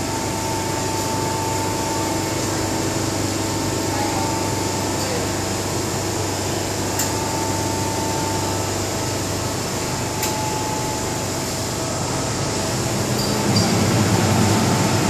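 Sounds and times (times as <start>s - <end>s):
air-conditioning hum: 0.0s - 15.0s.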